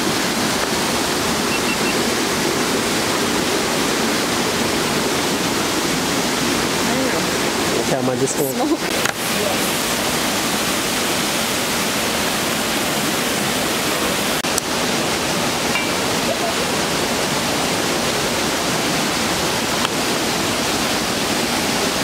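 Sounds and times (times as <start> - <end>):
river water rushing over falls: 0.0 - 22.0.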